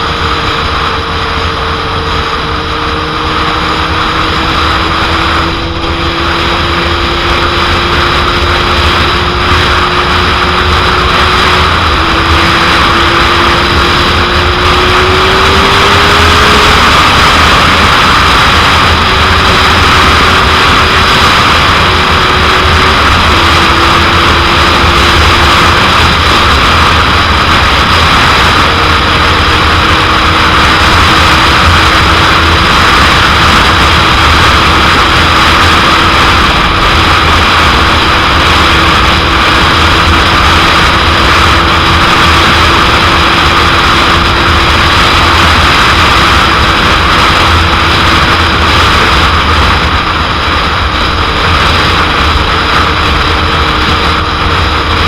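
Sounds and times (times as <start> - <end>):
motorcycle engine: 0.0 - 55.0
wind rushing over microphone: 0.0 - 55.0.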